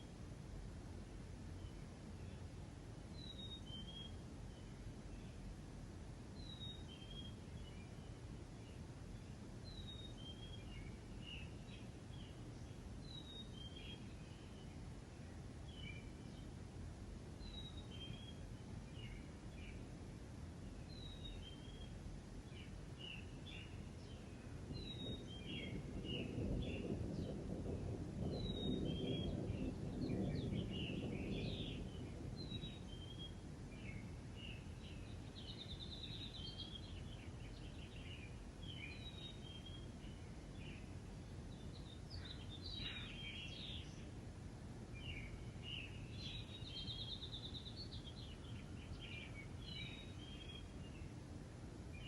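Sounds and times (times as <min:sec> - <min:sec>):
outdoor background hiss: 0:00.0 - 0:52.0
songbirds chirping and trilling: 0:00.0 - 0:52.0.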